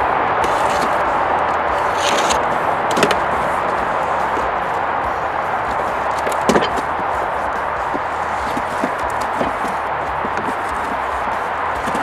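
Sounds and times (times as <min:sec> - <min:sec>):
cardboard box scraping: 0:00.3 - 0:12.0.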